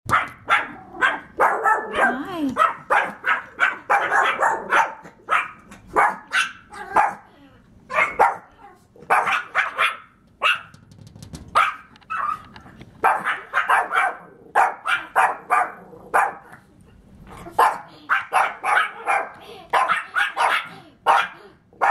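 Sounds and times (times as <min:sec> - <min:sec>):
dogs barking sharply: 0:00.1 - 0:07.3, 0:07.9 - 0:16.6, 0:17.4 - 0:21.9.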